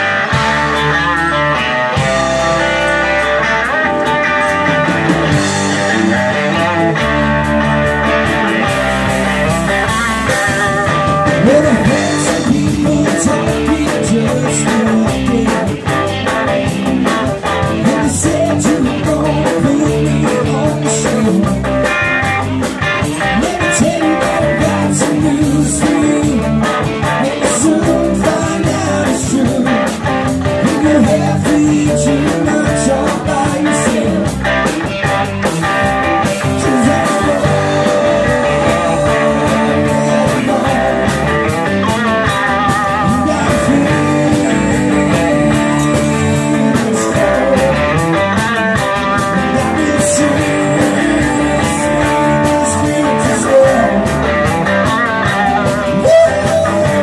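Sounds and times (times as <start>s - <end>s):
bass line: 0.0s - 57.0s
electric guitar: 0.0s - 57.0s
steady drum beat: 0.0s - 57.0s
man singing: 4.1s - 7.1s, 9.8s - 57.0s.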